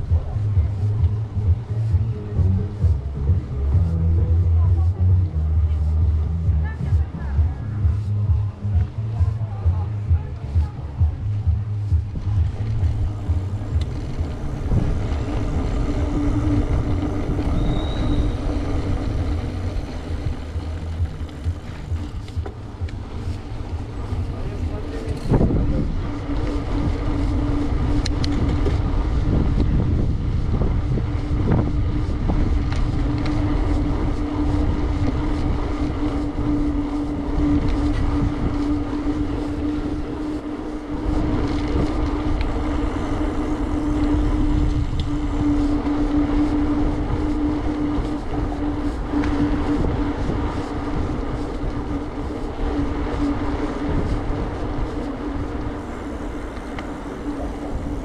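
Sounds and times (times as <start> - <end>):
steady hum: 0.0 - 58.0
tyres rolling rumble: 0.0 - 58.0
wind rush on microphone: 0.0 - 58.0.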